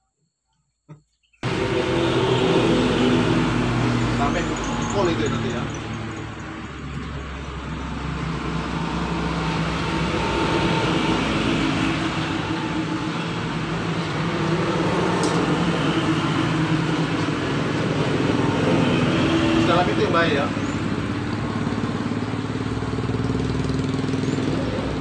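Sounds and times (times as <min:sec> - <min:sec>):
engine droning hum: 0:01.4 - 0:25.0.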